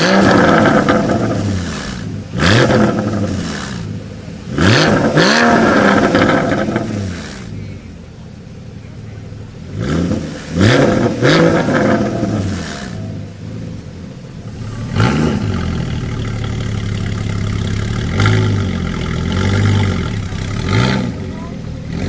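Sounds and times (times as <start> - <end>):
car engine idling: 0.0 - 22.0
car engine revving: 0.0 - 22.0.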